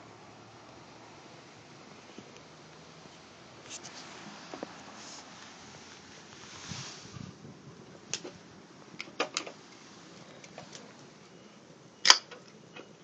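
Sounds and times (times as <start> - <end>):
wood fire crackling: 0.7 - 11.4.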